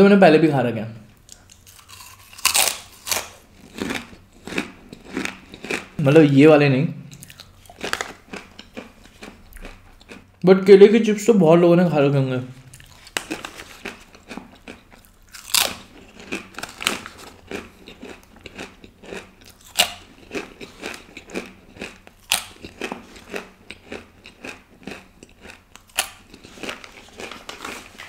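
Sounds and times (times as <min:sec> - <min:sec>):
crisp chips crunching: 0:01.3 - 0:06.0, 0:07.1 - 0:10.2, 0:12.6 - 0:28.0.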